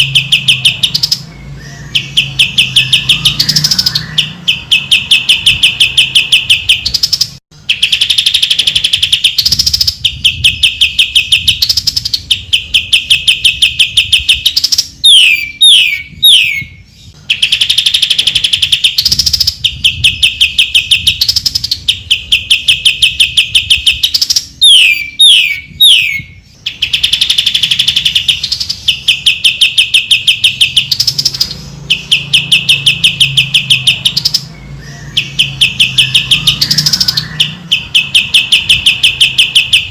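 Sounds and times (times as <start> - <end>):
bird singing trilled phrases: 0.0 - 39.9.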